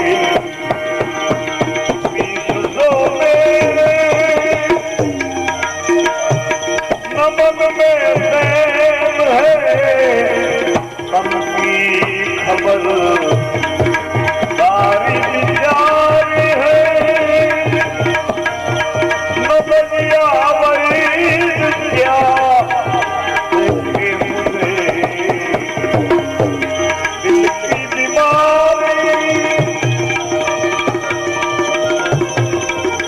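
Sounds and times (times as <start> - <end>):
tabla steady rhythm: 0.0 - 33.0.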